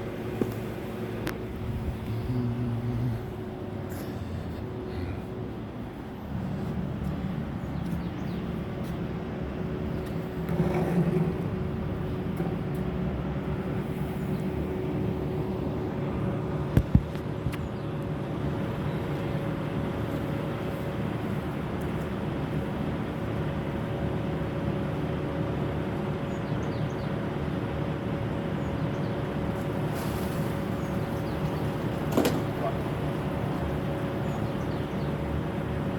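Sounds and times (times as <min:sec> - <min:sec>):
truck diesel engine running: 0:00.0 - 0:35.9.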